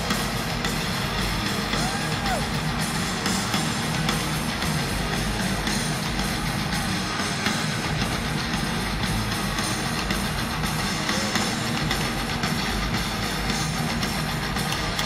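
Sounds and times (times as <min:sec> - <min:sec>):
distorted electric guitars: 0:00.0 - 0:15.0
pounding drum kit: 0:00.0 - 0:15.0.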